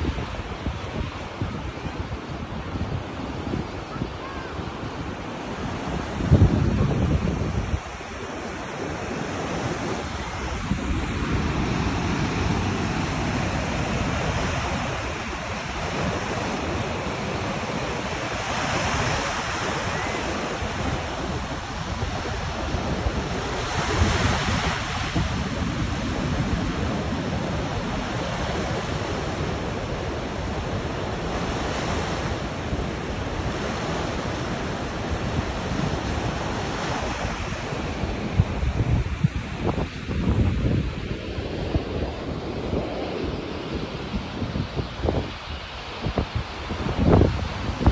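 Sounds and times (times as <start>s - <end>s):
waves breaking on sand: 0.0s - 47.9s
wind buffeting microphone: 0.0s - 47.9s.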